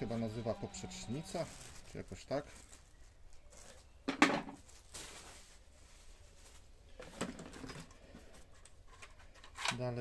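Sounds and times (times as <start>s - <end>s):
plastic and cardboard rustling: 0.1s - 9.9s.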